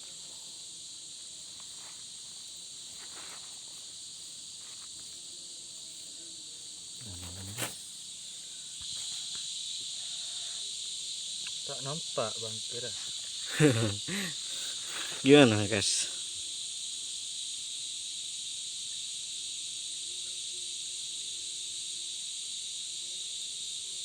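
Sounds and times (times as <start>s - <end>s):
shrill night insect chorus: 0.0s - 24.0s.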